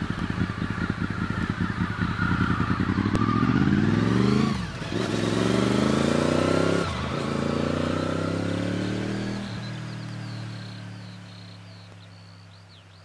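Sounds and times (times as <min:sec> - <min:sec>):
motorcycle accelerating past: 0:00.0 - 0:12.6.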